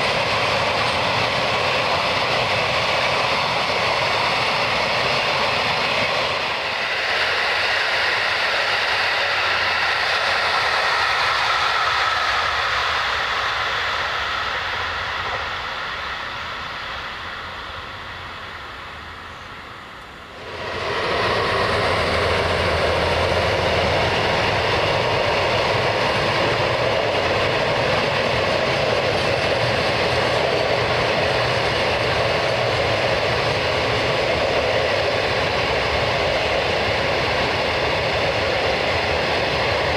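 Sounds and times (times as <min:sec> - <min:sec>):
train running by: 0:00.0 - 0:39.9.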